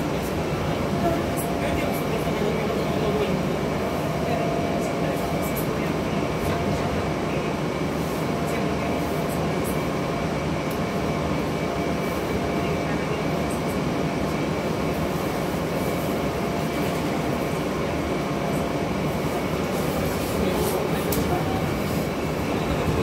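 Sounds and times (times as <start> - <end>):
subway car wheels rumbling on rail: 0.0 - 23.0.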